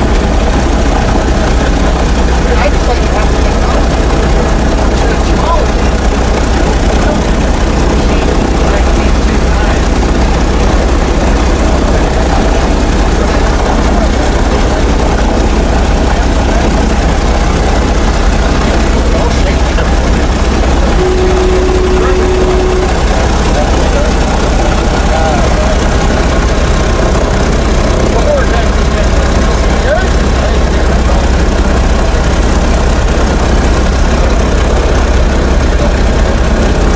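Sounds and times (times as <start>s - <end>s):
propeller engines running: 0.0s - 36.9s.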